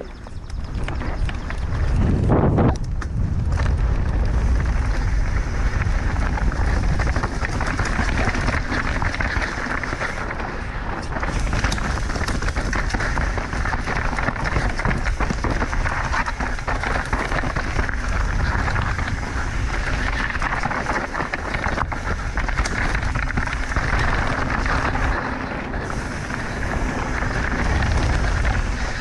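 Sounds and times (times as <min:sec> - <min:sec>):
bike rattles and clicks: 0:00.0 - 0:29.0
bike tyres on dirt and rocks: 0:00.0 - 0:29.0
wind buffeting microphone: 0:00.0 - 0:29.0.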